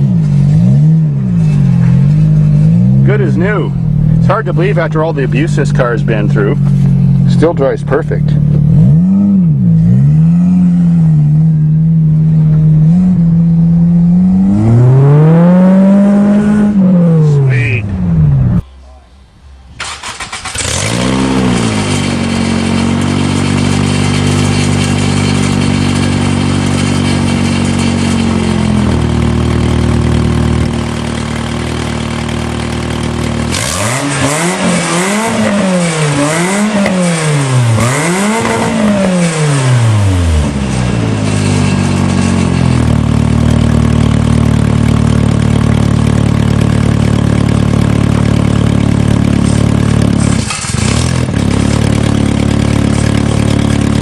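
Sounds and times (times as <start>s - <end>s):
car engine revving: 0.0s - 18.7s, 19.6s - 54.0s.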